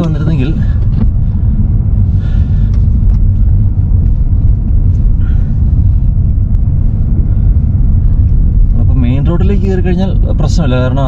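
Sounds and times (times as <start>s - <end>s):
engine and tyres rumbling on snow: 0.0s - 11.0s.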